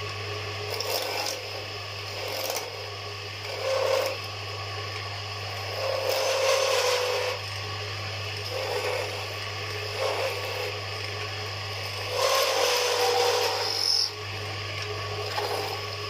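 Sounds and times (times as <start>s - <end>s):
wood lathe humming: 0.0s - 16.0s
chisel scraping spinning wood: 0.6s - 4.4s, 5.5s - 7.5s, 8.3s - 16.0s.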